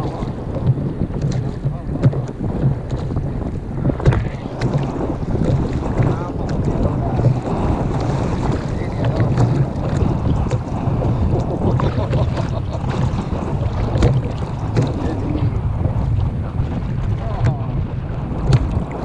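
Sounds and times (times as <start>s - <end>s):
sea lapping at kayak: 0.0s - 19.0s
wind buffeting microphone: 0.0s - 19.0s.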